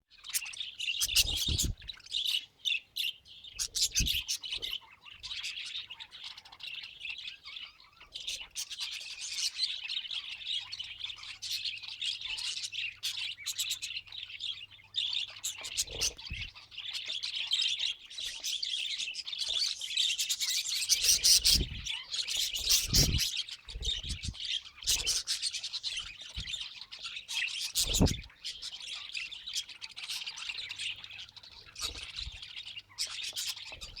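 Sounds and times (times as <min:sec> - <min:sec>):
budgerigars chirping: 0:00.2 - 0:34.0.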